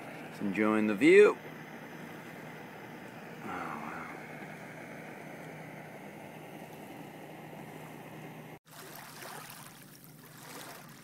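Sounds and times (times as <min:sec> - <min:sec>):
water washing on shoreline: 0:00.0 - 0:11.0
wind: 0:00.0 - 0:11.0.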